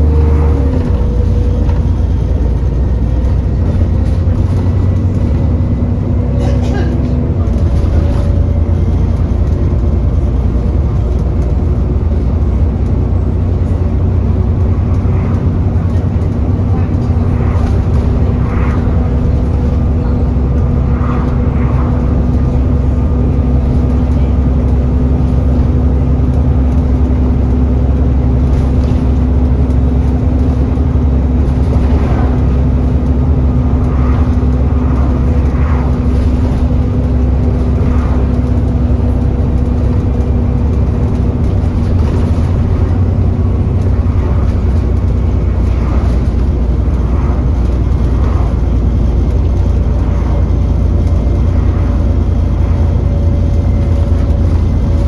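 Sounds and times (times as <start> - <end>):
bus engine droning: 0.0 - 55.0
steady whine: 0.0 - 55.0.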